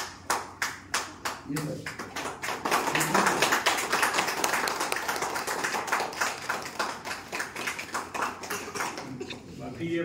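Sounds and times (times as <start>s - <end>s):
people applauding: 0.0s - 9.3s.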